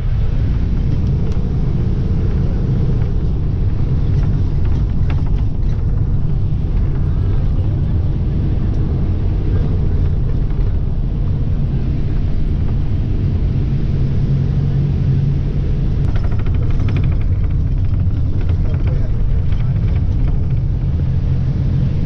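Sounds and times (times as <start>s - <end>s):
bus engine and road noise: 0.0s - 22.0s
rapid rattling: 0.3s - 13.4s, 16.0s - 22.0s.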